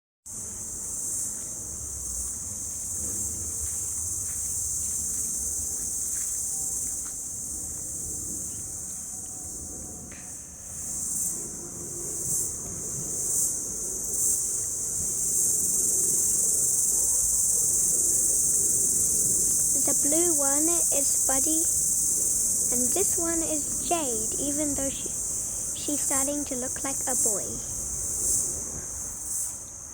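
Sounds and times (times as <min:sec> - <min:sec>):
insect chirring: 0:00.3 - 0:29.9.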